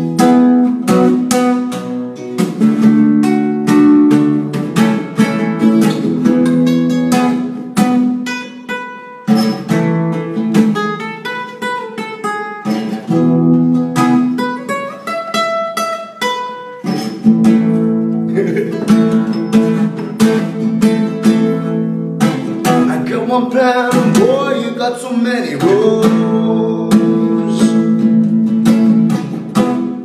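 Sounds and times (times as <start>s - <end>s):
classical guitar strummed and picked: 0.0s - 30.0s.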